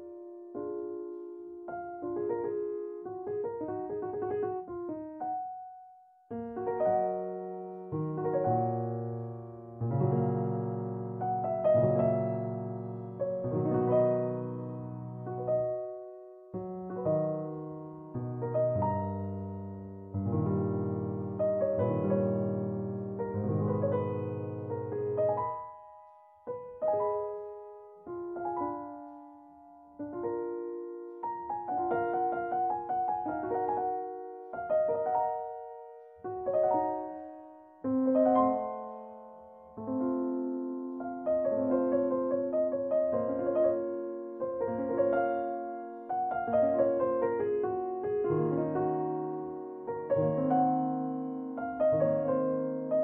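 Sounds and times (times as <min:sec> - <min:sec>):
slow piano chords: 0:00.0 - 0:53.0.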